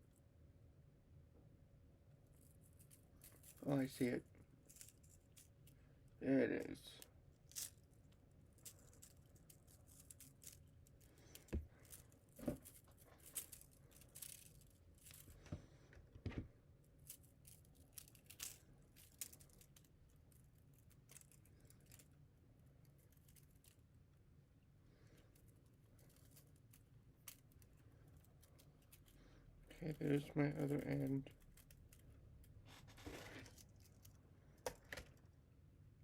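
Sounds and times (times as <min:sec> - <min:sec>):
plastic filament clicking and rustling: 0:02.3 - 0:05.8, 0:06.6 - 0:15.6, 0:16.2 - 0:24.0, 0:25.2 - 0:35.3.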